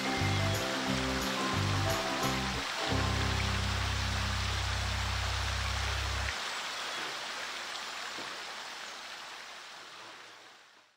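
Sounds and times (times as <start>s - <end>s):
fountain water splashing: 0.0s - 10.6s.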